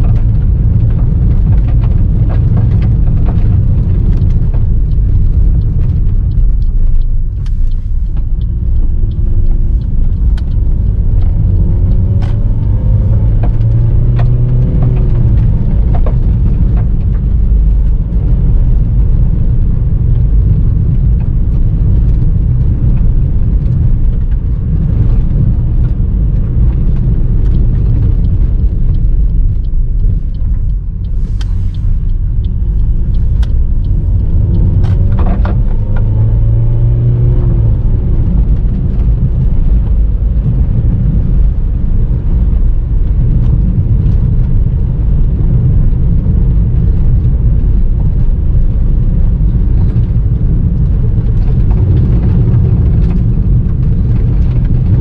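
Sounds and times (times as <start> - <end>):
car rumbling on gravel: 0.0 - 55.0.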